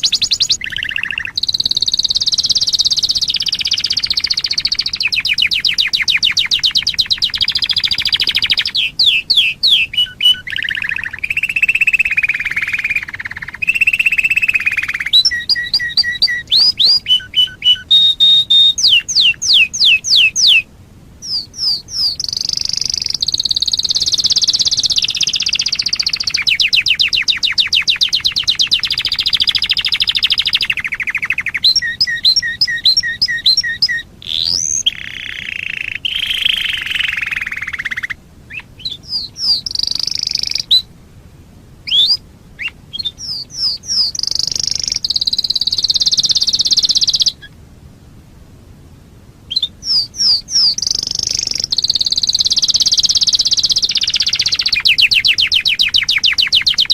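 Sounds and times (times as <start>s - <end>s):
canary singing: 0.0s - 41.0s, 41.8s - 47.6s, 49.5s - 56.9s.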